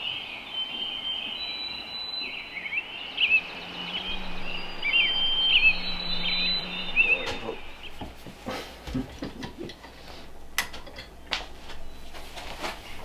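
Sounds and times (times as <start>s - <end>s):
birds chirping and singing: 0.0s - 13.0s
steady outdoor hiss: 0.0s - 13.0s.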